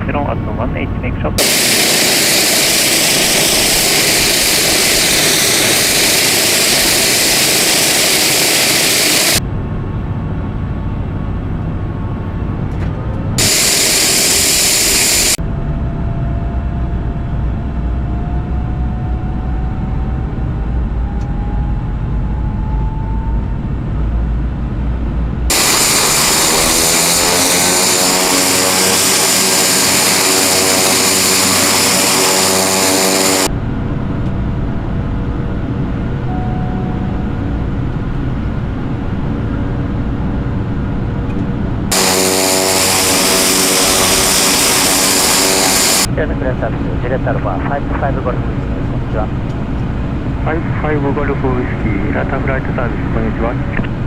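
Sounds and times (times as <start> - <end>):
turboprop engine whine: 0.0 - 54.0.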